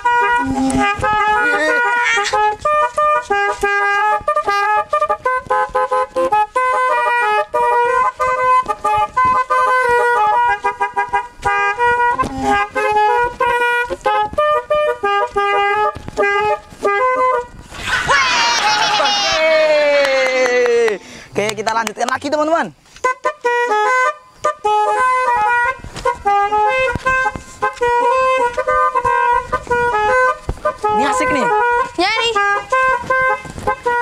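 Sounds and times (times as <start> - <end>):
musical air horn melody: 0.0 - 17.7, 23.0 - 34.0.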